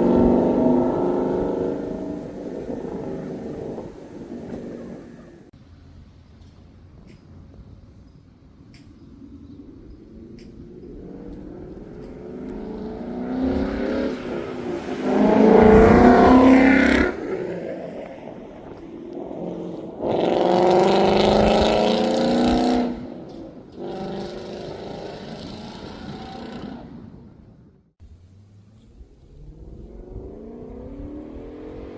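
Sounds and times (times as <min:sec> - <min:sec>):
car engine accelerating hard: 0:00.0 - 0:05.5, 0:09.4 - 0:27.4, 0:28.0 - 0:31.9.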